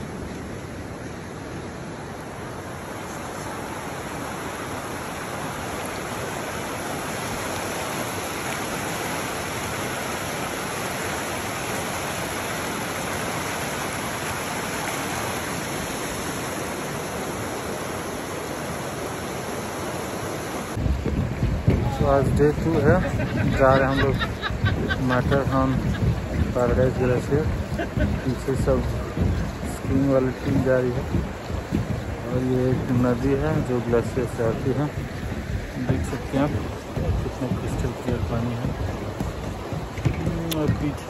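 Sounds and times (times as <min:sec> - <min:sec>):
river rushing over rocks: 0:00.0 - 0:41.0.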